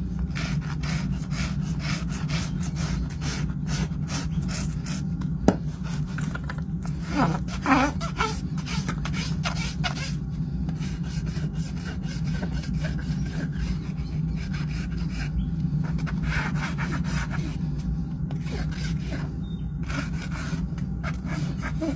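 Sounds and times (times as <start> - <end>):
steady low hum: 0.0 - 21.9
rasp filing a hoof: 0.3 - 5.0, 7.0 - 17.6, 18.3 - 21.9.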